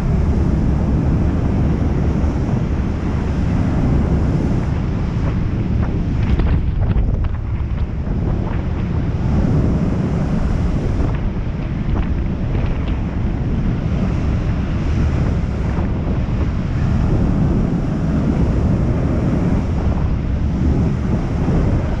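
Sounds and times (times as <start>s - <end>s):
ship wake rushing: 0.0s - 22.0s
wind buffeting microphone: 0.0s - 22.0s.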